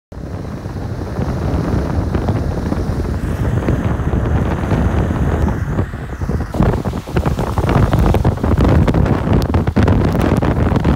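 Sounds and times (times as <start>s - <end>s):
wind buffeting microphone: 0.1s - 10.9s
car road noise on wet road: 0.2s - 10.9s.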